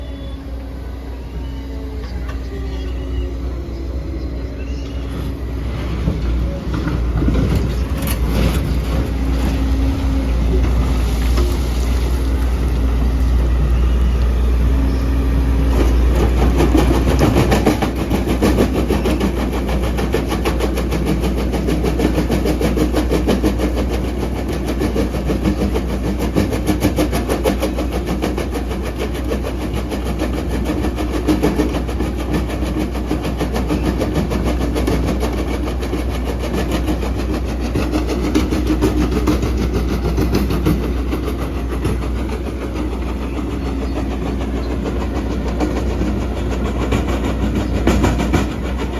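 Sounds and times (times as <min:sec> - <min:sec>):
excavator diesel engine rumbling: 0:00.0 - 0:48.9.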